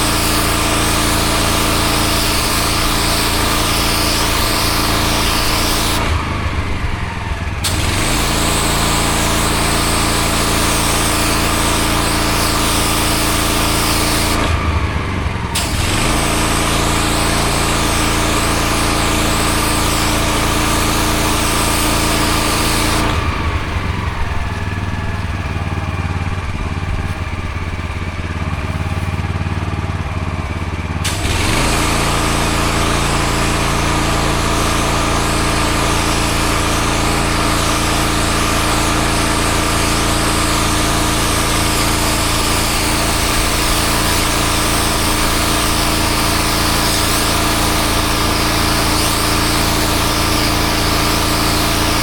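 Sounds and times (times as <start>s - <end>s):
pressure washer engine running: 0.0s - 52.0s
water jet hissing on paving: 0.0s - 52.0s.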